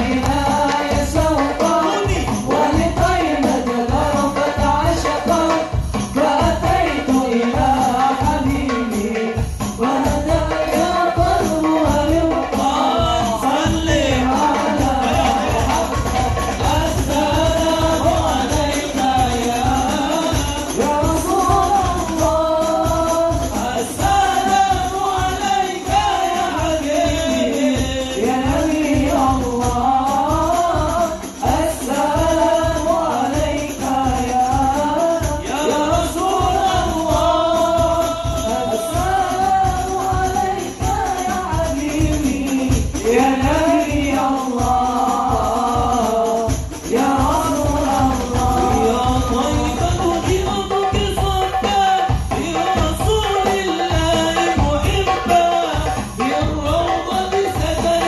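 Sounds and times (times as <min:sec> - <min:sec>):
frame drums beating: 0:00.0 - 0:58.0
person singing devotional song: 0:00.0 - 0:58.0.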